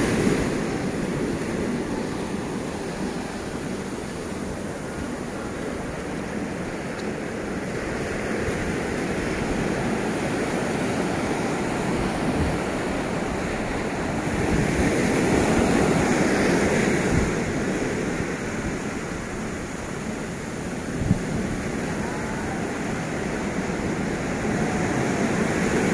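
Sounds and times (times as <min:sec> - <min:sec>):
ocean surf on beach: 0:00.0 - 0:25.9.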